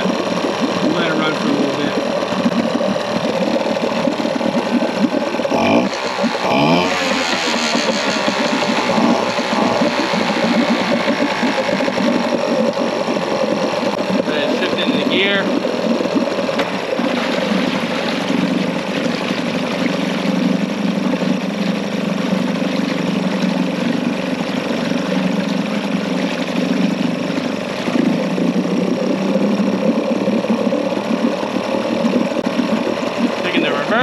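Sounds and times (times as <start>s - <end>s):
outboard motor running: 0.0s - 34.0s
propeller churning water: 0.0s - 34.0s.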